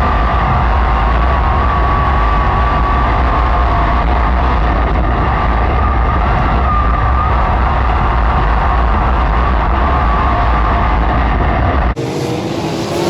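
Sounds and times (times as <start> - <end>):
race car engine droning: 0.0 - 13.0.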